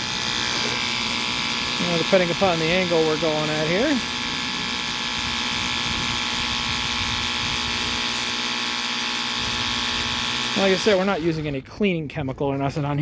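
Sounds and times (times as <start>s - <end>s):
water jet hissing on metal: 0.0s - 11.6s
pressure washer pump humming: 0.0s - 11.7s.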